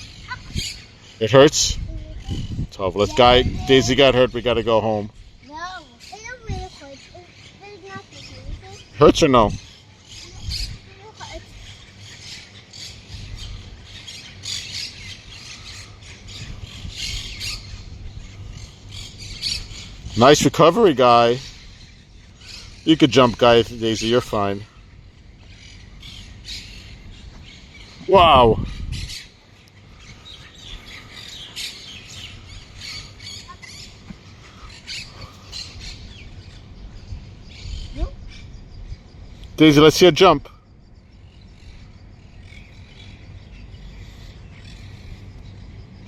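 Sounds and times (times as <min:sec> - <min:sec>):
low background hum: 0:00.0 - 0:46.0
small birds chirping and squawking: 0:00.0 - 0:46.0
low steady rumble: 0:08.2 - 0:46.0.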